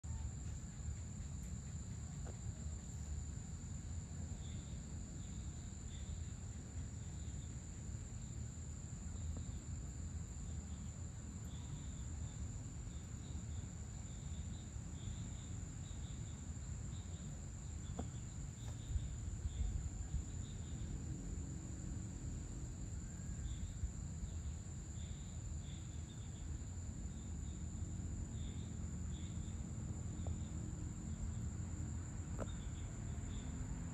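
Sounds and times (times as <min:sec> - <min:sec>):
low steady rumble: 0:00.0 - 0:33.9
short insect chirps: 0:00.1 - 0:21.0, 0:22.8 - 0:33.9
insects trilling: 0:00.1 - 0:33.9.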